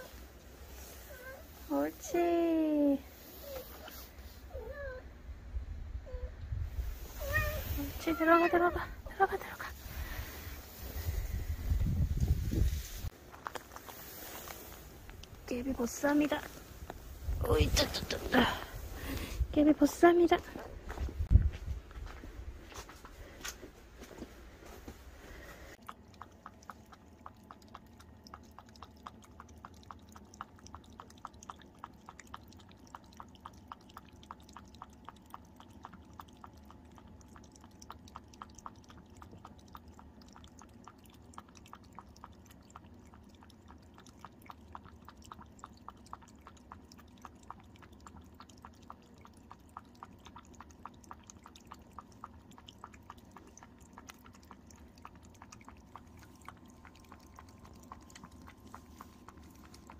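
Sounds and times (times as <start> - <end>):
cat lapping water: 0.0 - 5.0, 6.0 - 59.9.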